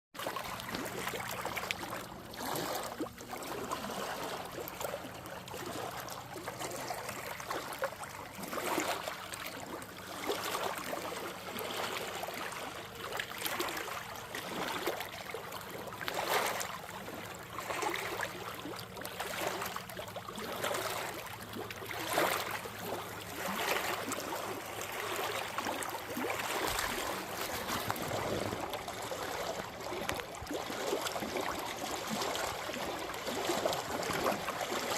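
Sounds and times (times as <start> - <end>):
lake waves lapping on shore: 0.2 - 34.9.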